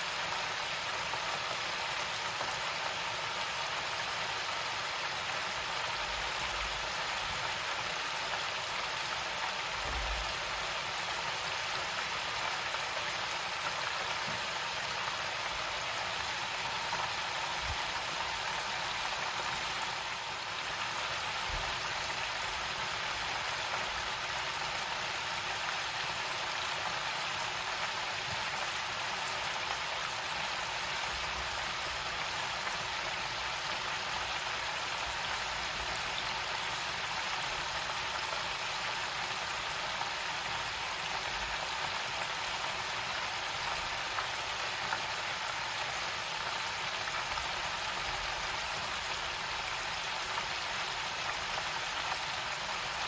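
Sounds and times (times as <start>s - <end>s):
chicken sizzling in deep fryer: 0.0s - 53.0s.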